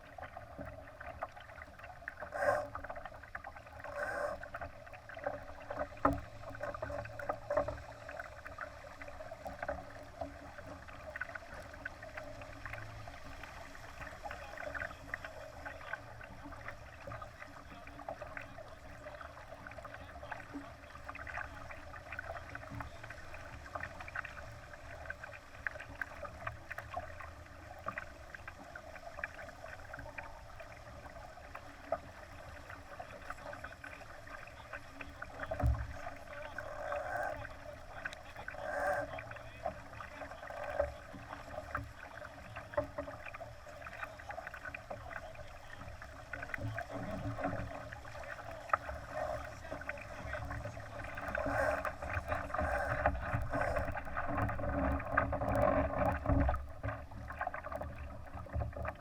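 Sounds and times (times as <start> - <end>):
water splashing against hull: 0.0 - 59.0.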